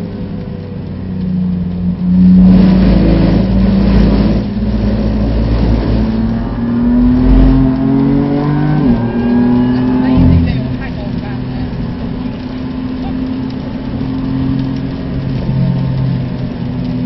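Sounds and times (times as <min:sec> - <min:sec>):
car engine from inside cabin: 0:00.0 - 0:17.0
wet road noise: 0:00.0 - 0:17.0.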